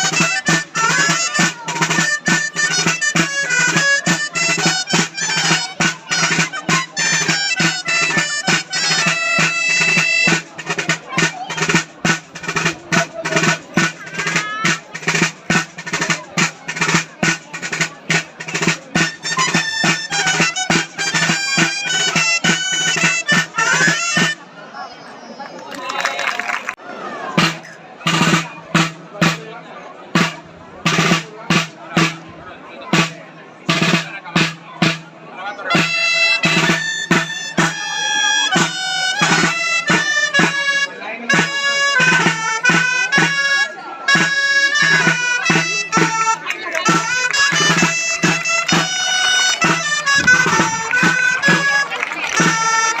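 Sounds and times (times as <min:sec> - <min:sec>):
drum strokes: 0:00.0 - 0:24.5, 0:27.4 - 0:53.0
shrill reed melody: 0:00.0 - 0:24.5, 0:33.7 - 0:53.0.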